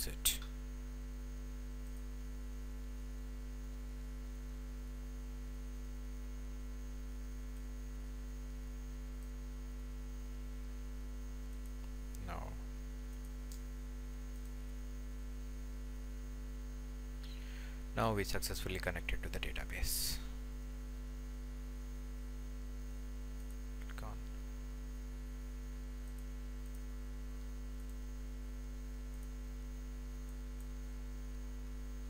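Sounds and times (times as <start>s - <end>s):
electrical mains hum: 0.0s - 32.0s.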